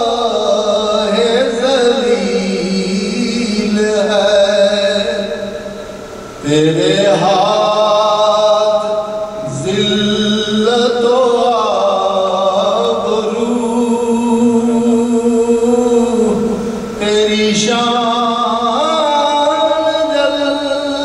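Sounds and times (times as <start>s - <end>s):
man singing unaccompanied: 0.0s - 5.8s, 6.4s - 21.0s.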